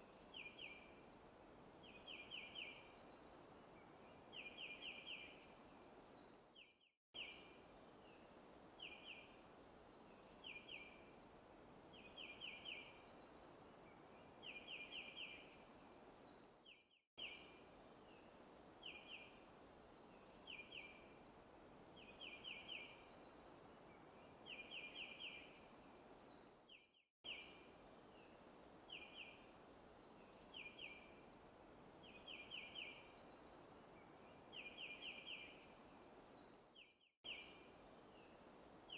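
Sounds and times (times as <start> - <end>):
faint steady hiss: 0.0 - 6.5, 7.2 - 16.6, 17.2 - 26.7, 27.3 - 38.9.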